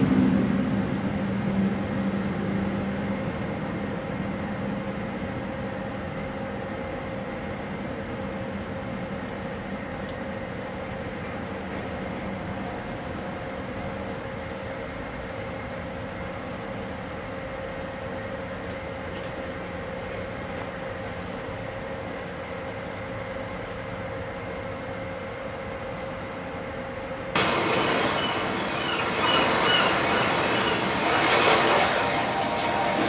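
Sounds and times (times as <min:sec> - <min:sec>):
steady mechanical drone: 0:00.0 - 0:33.0.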